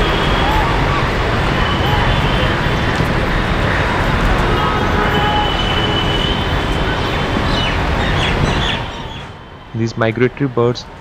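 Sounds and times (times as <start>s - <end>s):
loud rushing background noise: 0.0s - 11.0s.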